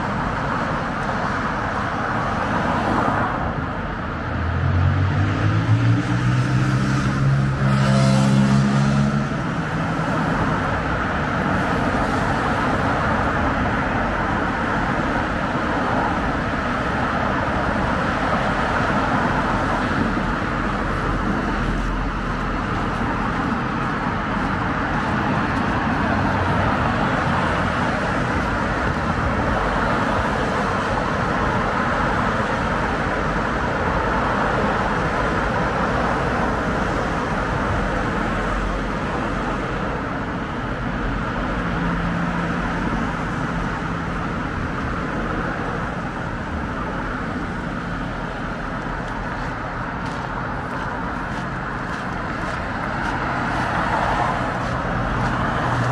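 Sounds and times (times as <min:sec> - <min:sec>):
road traffic rushing: 0:00.0 - 0:55.9.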